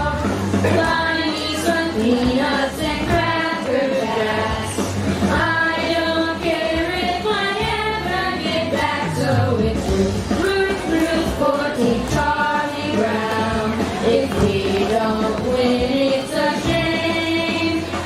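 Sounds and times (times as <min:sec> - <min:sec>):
backing track with bass line: 0:00.0 - 0:18.0
voices singing together: 0:00.0 - 0:18.0.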